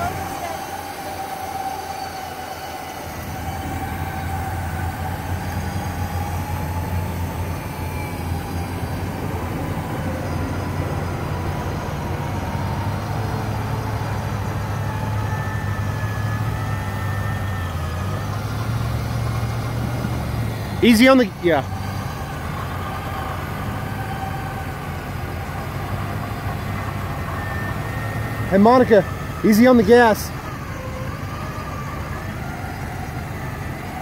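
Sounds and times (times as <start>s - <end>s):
electric winch whining: 0.0s - 34.0s
pickup engine hum: 0.0s - 34.0s.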